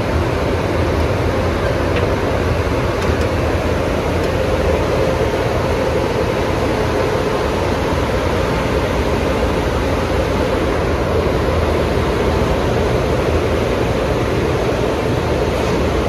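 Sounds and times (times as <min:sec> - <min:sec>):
car wash water spray and machinery: 0:00.0 - 0:16.0.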